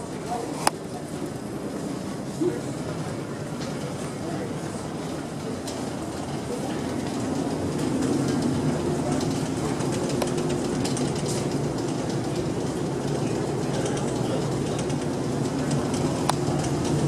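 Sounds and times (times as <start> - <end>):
ferry machinery hum: 0.0 - 17.0.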